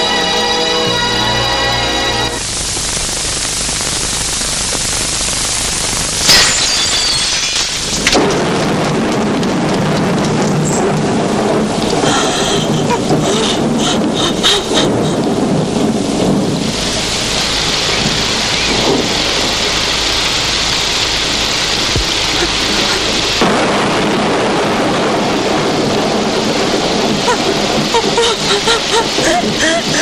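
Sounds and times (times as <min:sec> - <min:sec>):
rain hiss: 0:00.0 - 0:30.0
low thunder rumble: 0:02.4 - 0:30.0.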